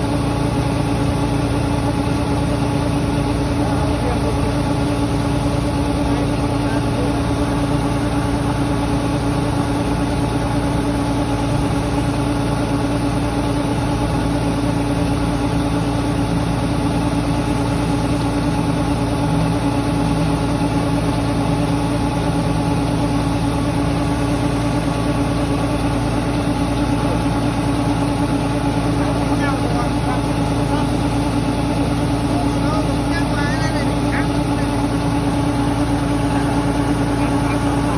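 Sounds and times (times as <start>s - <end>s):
harvester engine droning: 0.0s - 37.9s.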